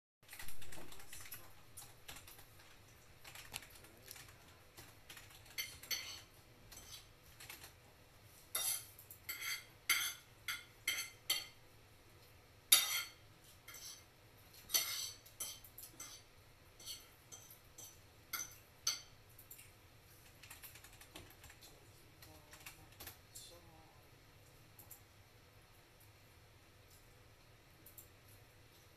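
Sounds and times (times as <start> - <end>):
faint low hum: 0.2 - 28.9.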